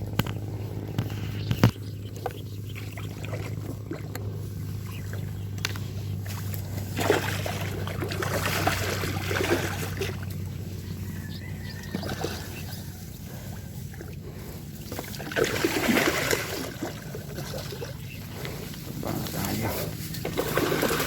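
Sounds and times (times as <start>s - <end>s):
steady low hum: 0.0s - 21.0s
water splashing and churning: 0.0s - 21.0s.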